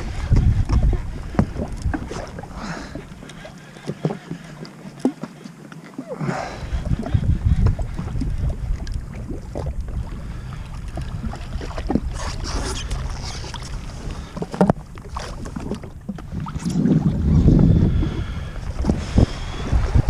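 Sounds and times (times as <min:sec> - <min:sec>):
wind buffeting microphone: 0:00.0 - 0:03.2, 0:06.2 - 0:20.0
water slapping against hull: 0:00.0 - 0:20.0.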